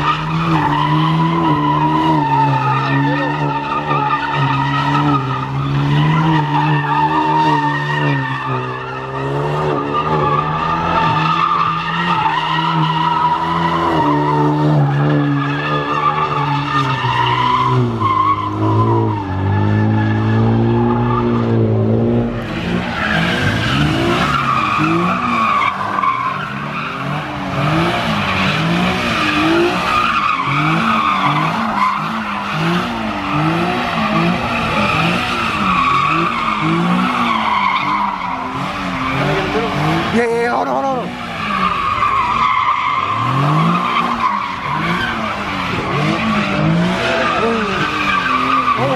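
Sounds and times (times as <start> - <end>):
tyres squealing on pavement: 0.0 - 21.6, 22.3 - 48.9
car engine revving: 0.0 - 48.9.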